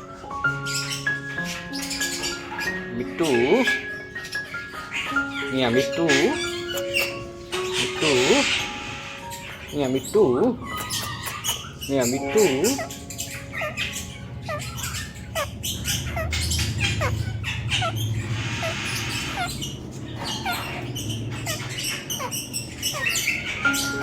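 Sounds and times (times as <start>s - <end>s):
parakeet chirping: 0.0s - 24.0s.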